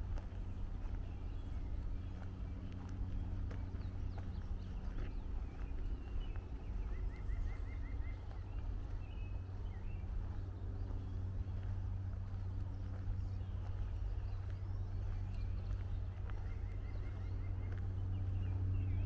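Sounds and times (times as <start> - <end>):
birds calling: 0.0 - 19.0
footsteps on a trail: 0.0 - 19.0.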